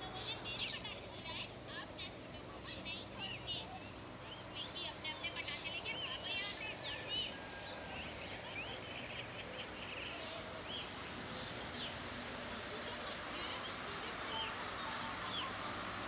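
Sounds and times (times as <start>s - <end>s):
birds chirping: 0.0s - 16.0s
steady outdoor hiss: 0.0s - 16.0s.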